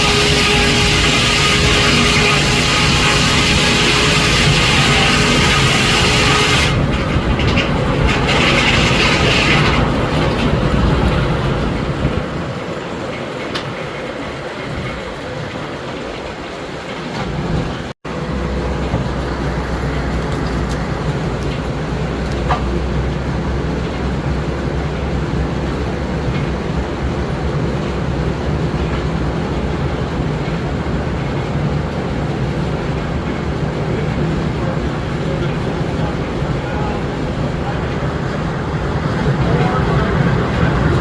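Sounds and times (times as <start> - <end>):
sawmill mechanical rumble: 0.0 - 41.0.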